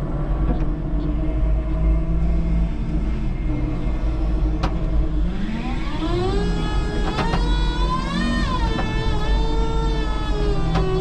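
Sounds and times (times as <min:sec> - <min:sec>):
forklift low rumble: 0:00.0 - 0:11.0
electric motor whine: 0:00.7 - 0:11.0.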